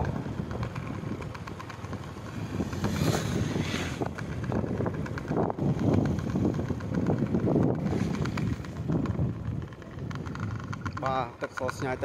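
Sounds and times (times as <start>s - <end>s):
low vehicle rumble: 0.0s - 12.0s
wind buffeting microphone: 0.0s - 12.0s.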